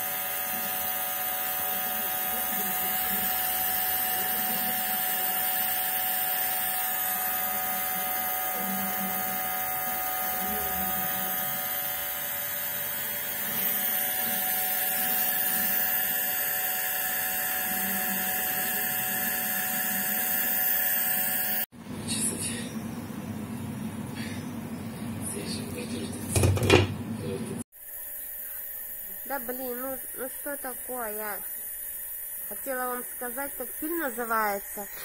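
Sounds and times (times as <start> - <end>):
nebulizer motor humming: 0.0 - 21.7, 27.8 - 35.0.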